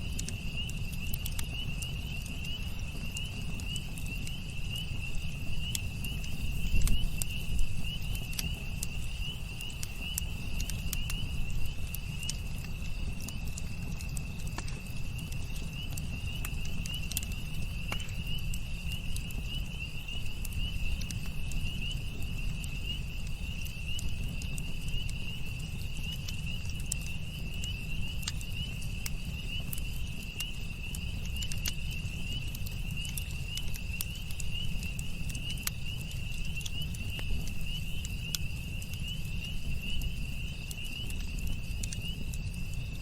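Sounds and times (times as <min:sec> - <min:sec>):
campfire crackling: 0:00.0 - 0:43.0
night insects trilling: 0:00.0 - 0:43.0.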